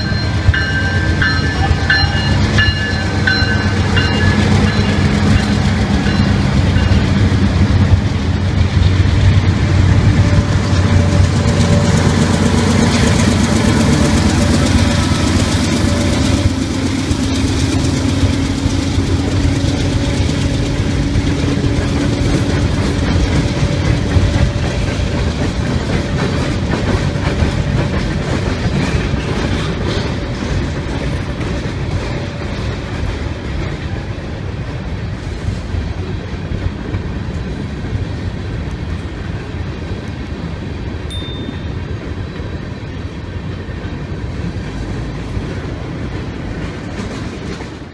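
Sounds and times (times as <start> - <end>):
diesel locomotive engine drone: 0.0 - 47.9
train wheels clacking over rails: 0.0 - 47.9.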